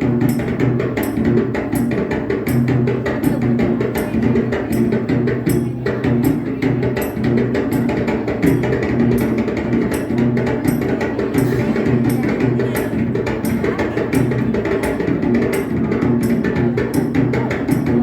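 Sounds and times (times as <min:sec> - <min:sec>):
dance music with rhythmic drumming: 0:00.0 - 0:18.0.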